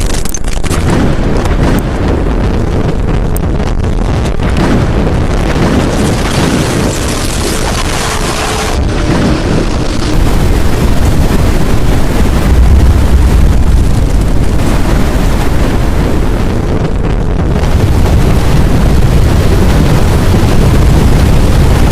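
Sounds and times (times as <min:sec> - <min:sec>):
strong wind rumble: 0:00.0 - 0:21.9.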